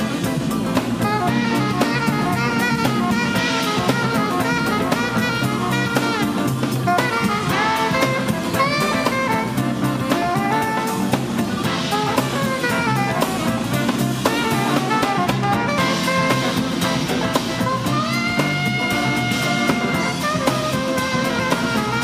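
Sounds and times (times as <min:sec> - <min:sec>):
alto saxophone solo: 0:00.0 - 0:22.0
drum kit groove: 0:00.0 - 0:22.0.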